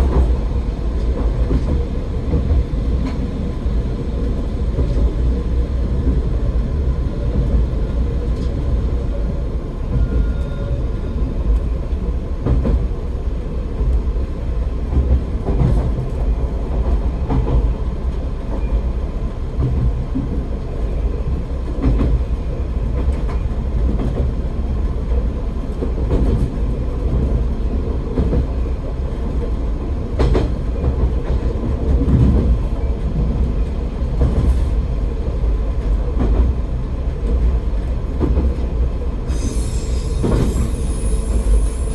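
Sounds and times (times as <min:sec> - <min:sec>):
railcar engine and wheels rumbling: 0:00.0 - 0:41.9.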